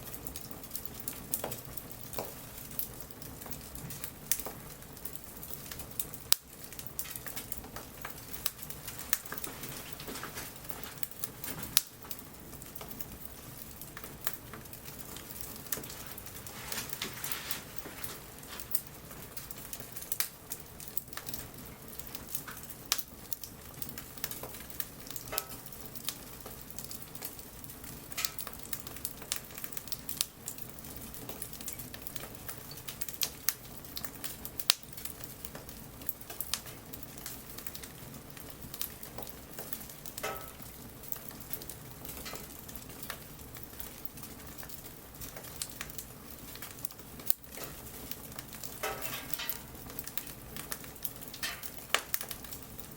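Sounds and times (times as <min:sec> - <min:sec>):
bonfire crackling: 0:00.0 - 0:52.9
light rain pattering: 0:00.0 - 0:52.9.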